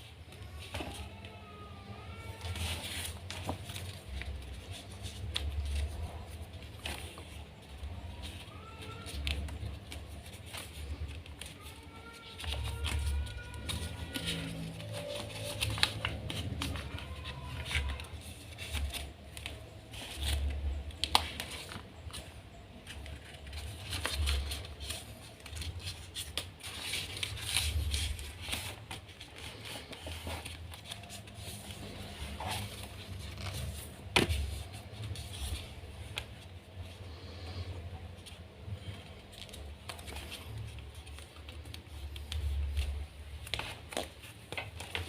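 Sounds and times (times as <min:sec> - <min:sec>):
paper rustling and crinkling: 0:00.0 - 0:45.0
crisp paper creasing clicks: 0:00.1 - 0:45.0.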